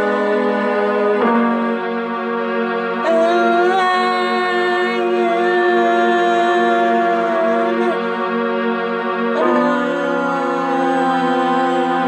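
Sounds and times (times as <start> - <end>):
slow sustained instrumental chords: 0.0 - 12.0.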